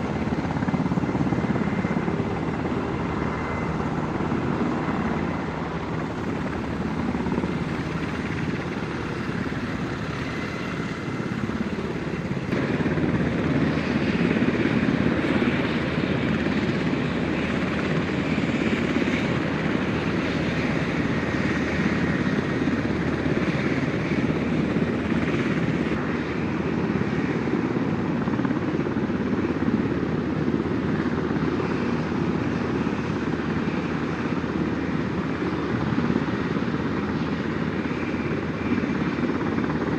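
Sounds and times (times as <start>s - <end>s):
helicopter rotor and turbine noise: 0.0s - 39.9s.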